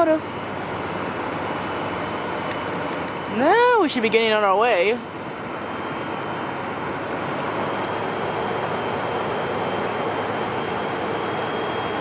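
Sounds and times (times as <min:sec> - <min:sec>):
diesel locomotives idling: 0:00.0 - 0:12.0.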